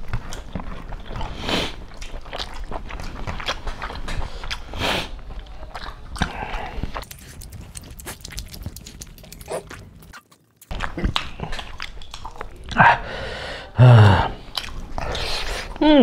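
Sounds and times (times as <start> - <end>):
people chewing wetly: 0.0 - 16.0.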